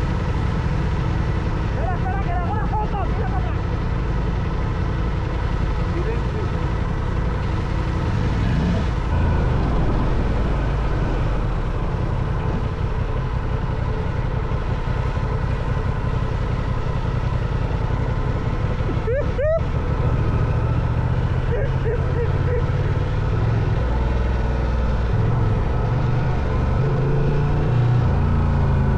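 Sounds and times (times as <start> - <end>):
motorcycle engine rumbling: 0.0 - 28.9.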